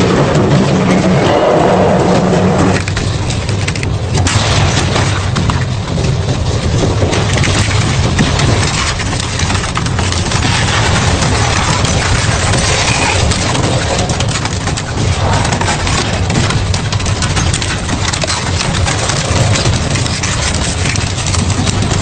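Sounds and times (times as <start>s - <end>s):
industrial shredder running: 0.0s - 22.0s
material cracking and crunching: 0.0s - 22.0s.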